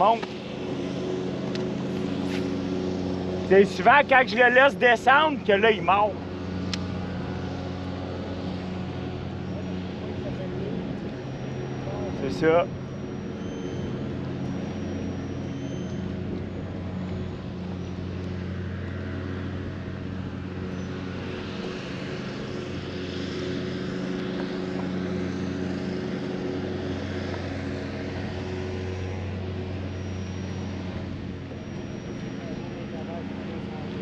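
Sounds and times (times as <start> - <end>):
engine drone: 0.0 - 34.0.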